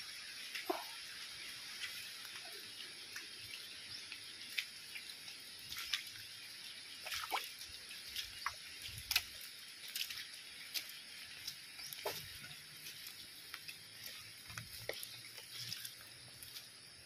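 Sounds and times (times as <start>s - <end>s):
water dripping: 0.0s - 17.0s.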